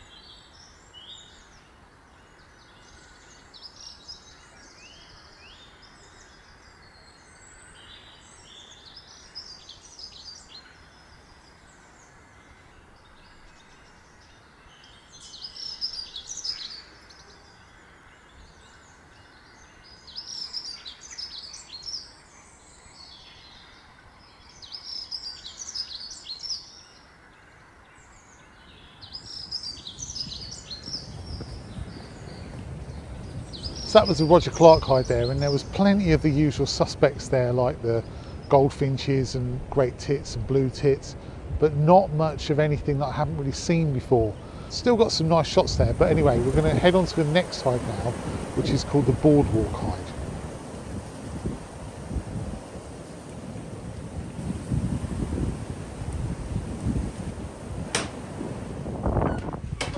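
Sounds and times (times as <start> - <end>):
songbird chirping song: 0.0 - 59.9
steady background hiss: 0.0 - 59.9.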